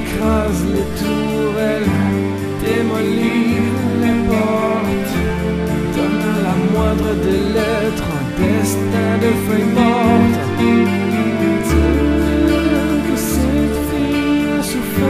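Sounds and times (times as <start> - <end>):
pop music instrumental: 0.0 - 15.0
sliding lead melody: 0.0 - 15.0
steady drum beat: 0.0 - 15.0.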